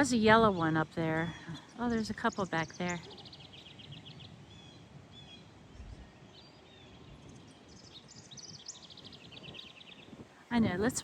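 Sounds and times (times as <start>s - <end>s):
faint outdoor background hiss: 0.0s - 11.0s
songbirds twittering and chirping: 0.0s - 11.0s.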